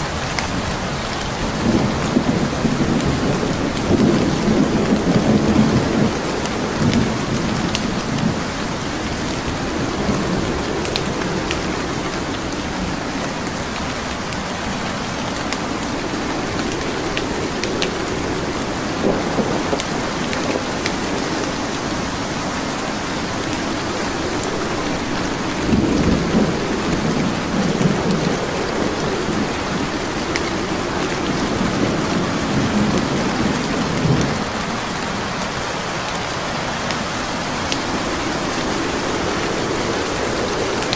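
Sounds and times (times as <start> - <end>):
steady rain: 0.0 - 40.9
wood fire crackling: 0.0 - 40.9
thunder rolling: 1.4 - 40.9.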